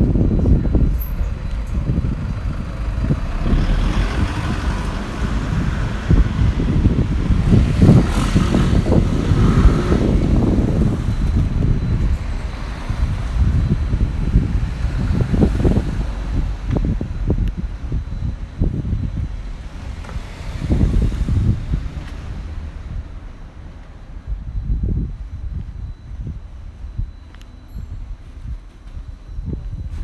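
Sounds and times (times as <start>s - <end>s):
road vehicle passing: 0.0s - 25.6s
wind buffeting microphone: 0.0s - 30.0s.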